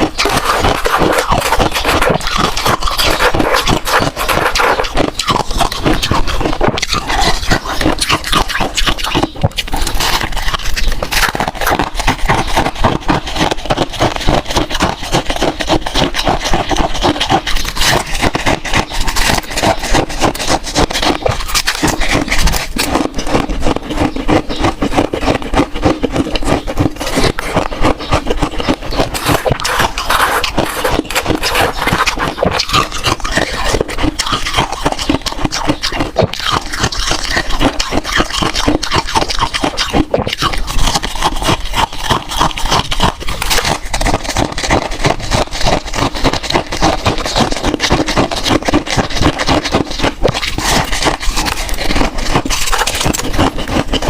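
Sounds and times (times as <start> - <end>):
frost being chewed crunching: 0.0 - 54.0.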